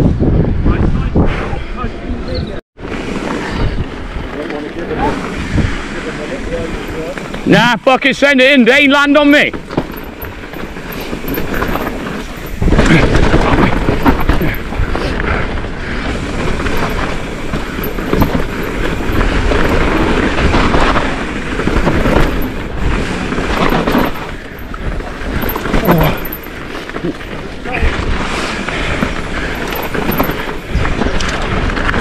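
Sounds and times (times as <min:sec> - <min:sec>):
bike jolts over bumps: 0:02.9 - 0:07.7, 0:09.1 - 0:32.0
mountain bike rattling over trail: 0:02.9 - 0:07.8, 0:08.8 - 0:32.0.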